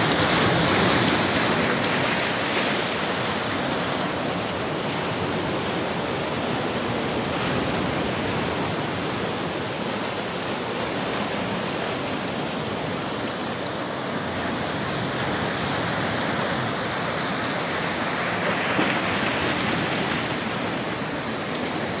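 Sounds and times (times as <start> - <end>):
sea surf breaking: 0.0 - 22.0.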